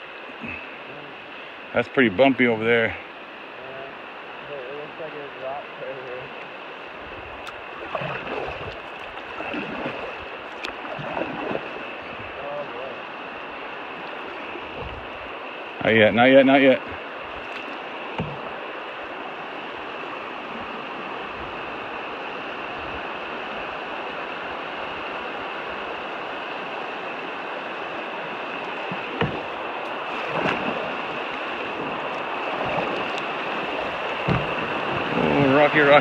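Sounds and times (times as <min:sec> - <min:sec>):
river rapid rushing: 0:00.0 - 0:36.0.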